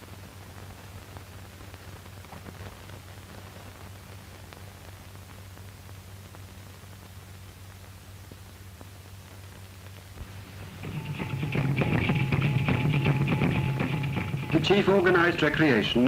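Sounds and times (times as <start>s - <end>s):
film soundtrack hiss and crackle: 0.0s - 16.0s
low steady hum: 0.0s - 16.0s.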